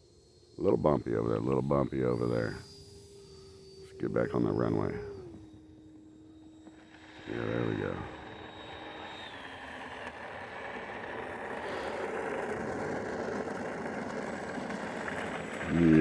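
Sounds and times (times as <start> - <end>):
electric fan whine: 0.0 - 16.0
electric fan rushing: 0.6 - 16.0.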